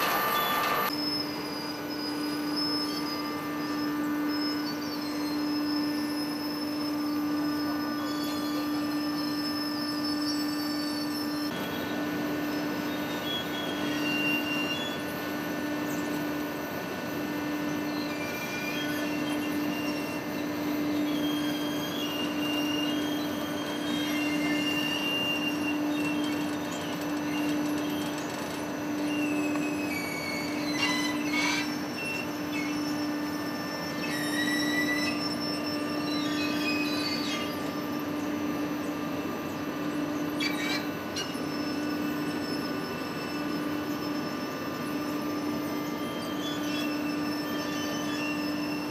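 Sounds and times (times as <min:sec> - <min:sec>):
conveyor machine hum: 0:00.0 - 0:48.9
short high-pitched squeals: 0:00.0 - 0:48.9.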